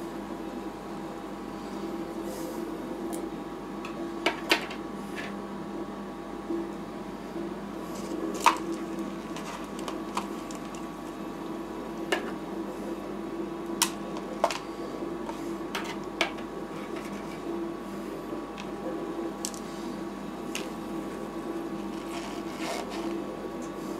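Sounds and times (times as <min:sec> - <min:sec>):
cooling unit humming: 0:00.0 - 0:23.9.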